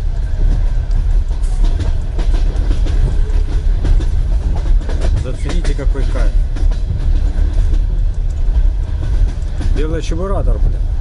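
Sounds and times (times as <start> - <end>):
train carriage rumble: 0.0 - 11.0
wheels clacking over rail joints: 0.0 - 11.0.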